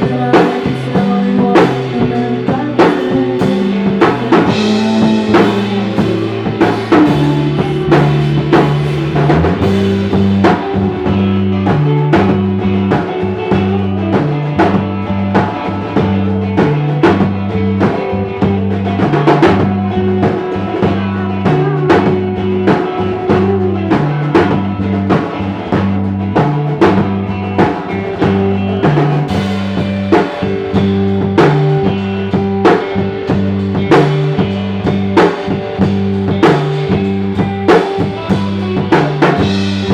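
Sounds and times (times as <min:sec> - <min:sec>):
bass line: 0:00.0 - 0:39.9
drum kit beat: 0:00.0 - 0:39.9
electric guitars: 0:00.0 - 0:39.9.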